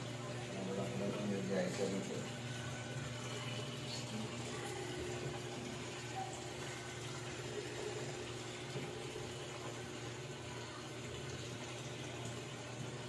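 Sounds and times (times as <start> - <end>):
water pouring into washing machine: 0.0 - 13.0.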